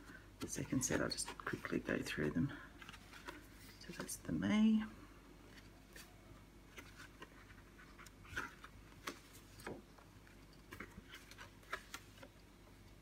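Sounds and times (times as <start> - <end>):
cards rustling and tapping: 0.0 - 4.2, 6.7 - 13.0.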